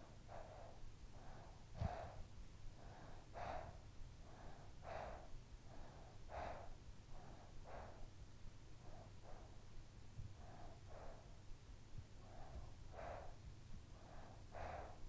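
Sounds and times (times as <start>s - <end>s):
child breathing while asleep: 0.0s - 15.0s.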